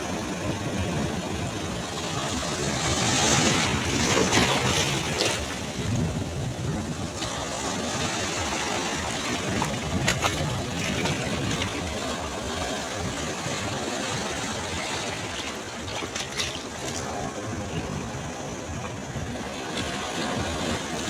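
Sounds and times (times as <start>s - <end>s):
sea waves washing on a beach: 0.0s - 21.0s.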